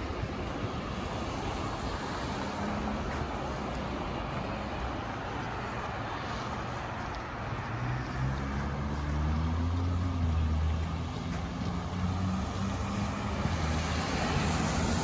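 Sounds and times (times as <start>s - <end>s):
tyres hissing on wet road: 0.0s - 15.0s
vehicle engine hum: 0.0s - 15.0s.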